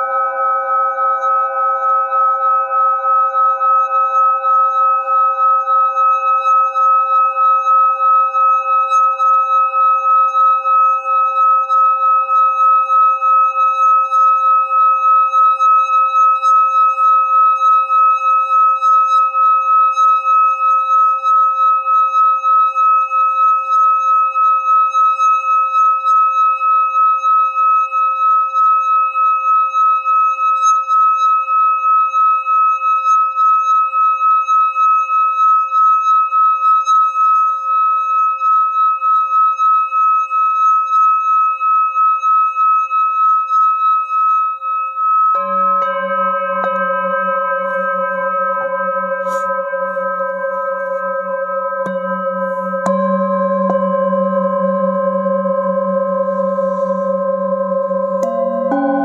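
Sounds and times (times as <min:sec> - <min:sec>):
singing bowl ringing: 0:00.0 - 0:59.0.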